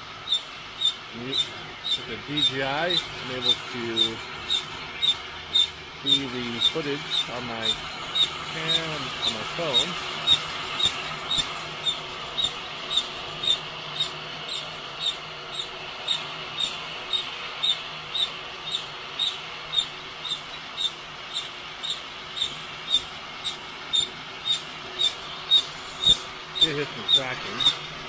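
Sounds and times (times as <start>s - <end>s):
pot squeaking as it rotates: 0.0s - 28.0s.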